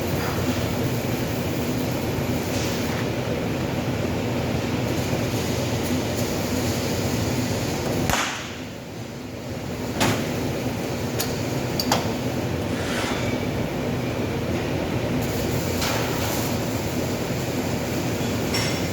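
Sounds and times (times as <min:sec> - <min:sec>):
machine hum and rumble: 0:00.0 - 0:18.9.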